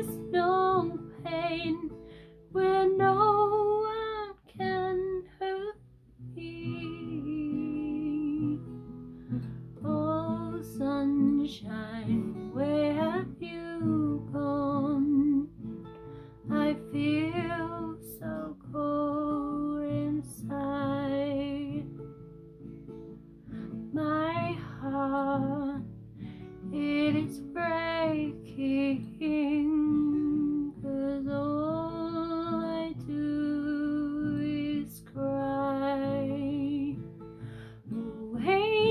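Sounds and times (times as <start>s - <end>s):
woman singing: 0.0s - 22.2s, 23.5s - 38.9s
acoustic guitar: 0.0s - 38.9s.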